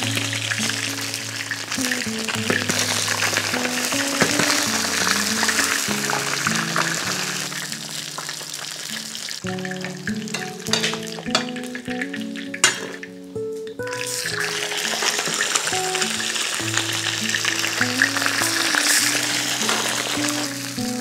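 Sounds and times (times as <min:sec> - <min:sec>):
background music: 0:00.0 - 0:21.0
fish sizzling in hot oil: 0:00.0 - 0:21.0.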